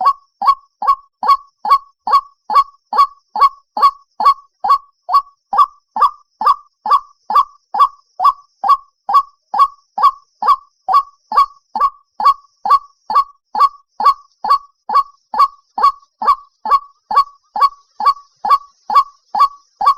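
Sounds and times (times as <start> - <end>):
waterhen calling harsh notes: 0.0 - 19.9.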